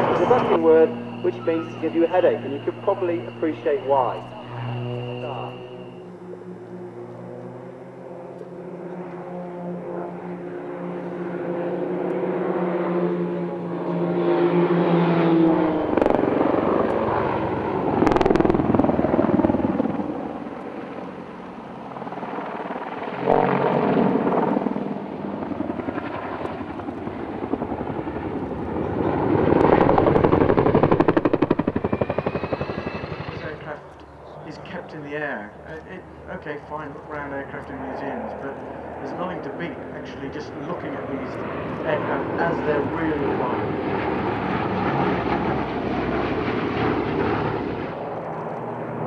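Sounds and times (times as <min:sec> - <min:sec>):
helicopter rotor chop: 0:00.0 - 0:49.0
propeller aircraft engines droning: 0:00.0 - 0:49.0
twin-rotor helicopter blade beat: 0:00.0 - 0:49.0.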